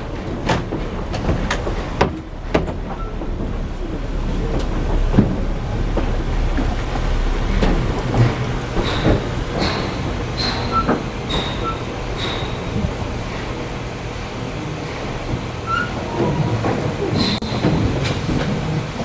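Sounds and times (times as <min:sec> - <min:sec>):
train car rumbling on track: 0:00.0 - 0:19.0
wheels and couplings clanking: 0:00.0 - 0:19.0.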